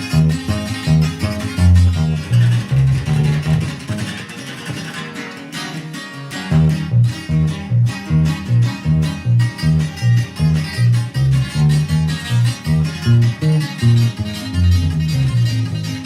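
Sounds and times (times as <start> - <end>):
bass line: 0.0 - 4.1, 6.5 - 16.0
strummed guitar chords: 0.0 - 16.0.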